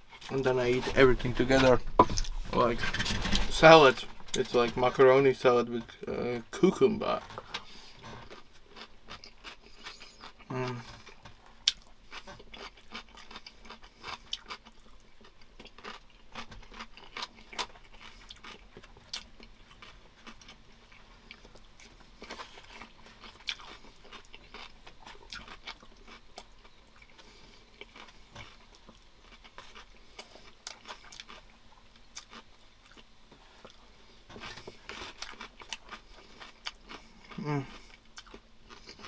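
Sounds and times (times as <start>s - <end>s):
person chewing food: 7.0s - 39.0s.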